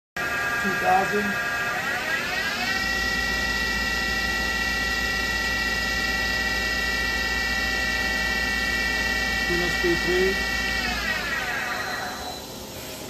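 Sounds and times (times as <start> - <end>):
machine spindle high whine: 0.2 - 13.0.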